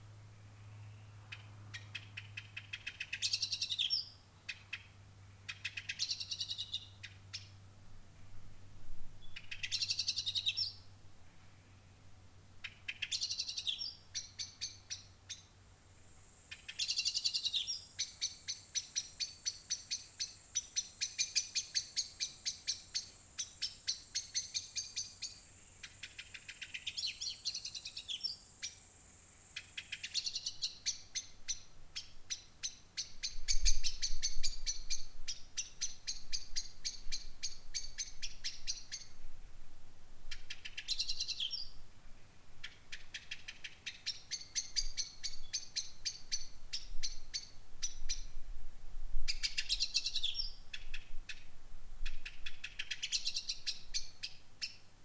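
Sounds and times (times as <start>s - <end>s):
songbird singing: 0.0s - 7.6s, 9.1s - 15.7s, 16.4s - 39.3s, 40.2s - 48.4s, 49.2s - 54.9s.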